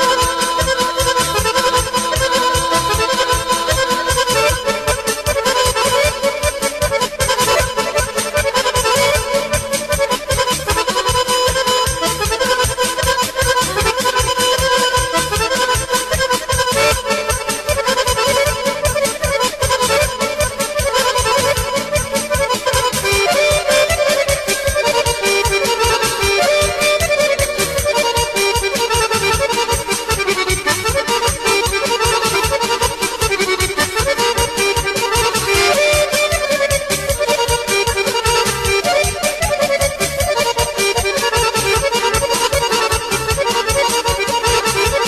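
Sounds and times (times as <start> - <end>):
accordion folk dance music: 0.0 - 45.0.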